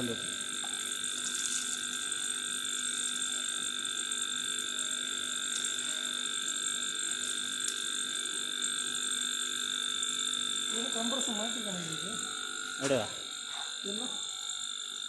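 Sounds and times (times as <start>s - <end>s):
high-pitched machine whine: 0.0s - 15.0s.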